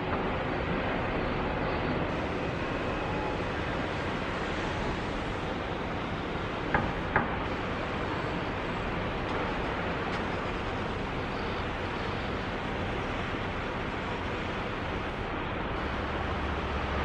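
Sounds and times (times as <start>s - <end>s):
shipyard din: 2.0s - 17.0s.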